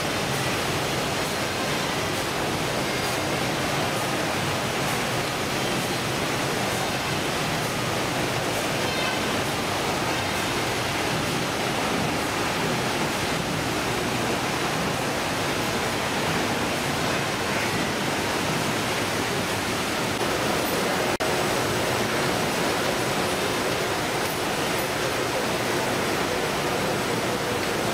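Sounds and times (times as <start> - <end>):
running water: 0.0 - 27.9.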